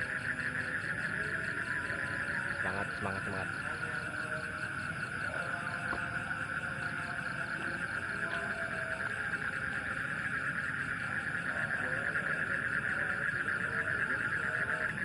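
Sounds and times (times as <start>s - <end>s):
frogs trilling: 0.0s - 15.0s
lower frog calls: 0.0s - 15.0s.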